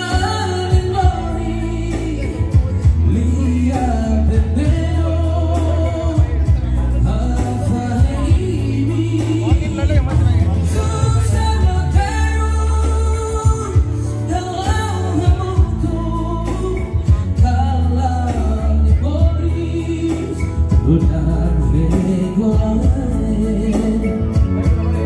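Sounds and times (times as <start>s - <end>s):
keyboard accompaniment: 0.0s - 25.0s
person singing: 0.0s - 25.0s
steady bass: 0.0s - 25.0s.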